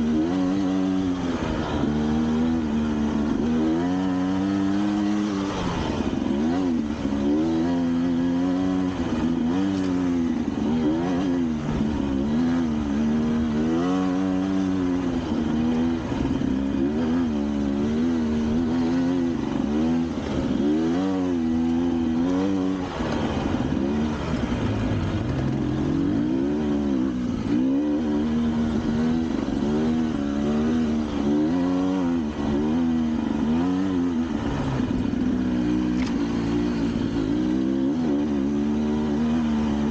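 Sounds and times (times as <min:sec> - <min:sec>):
vehicle engine labouring: 0:00.0 - 0:39.9.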